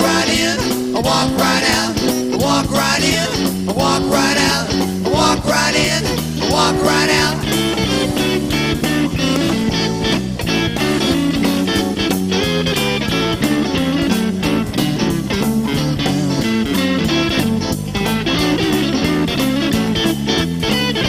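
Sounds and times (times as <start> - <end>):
electric bass: 0.0 - 21.0
electric guitar lead: 0.0 - 21.0.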